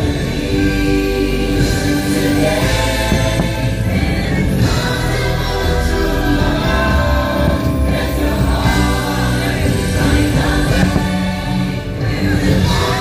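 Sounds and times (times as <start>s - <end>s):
choir singing: 0.0s - 13.0s
orchestral soundtrack music: 0.0s - 13.0s.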